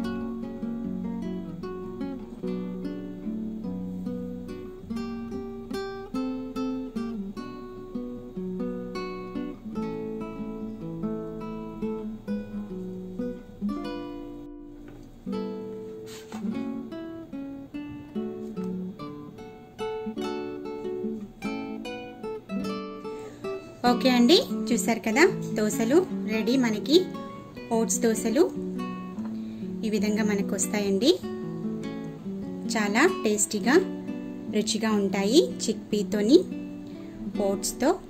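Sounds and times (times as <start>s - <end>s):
acoustic guitar plucked notes: 0.0s - 38.0s.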